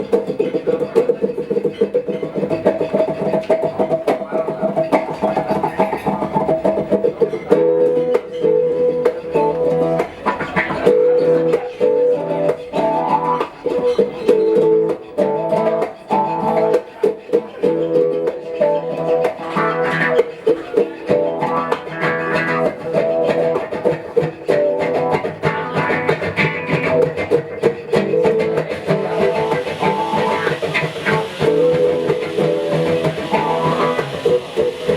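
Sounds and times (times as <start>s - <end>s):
guitar duo playing: 0.0s - 34.9s.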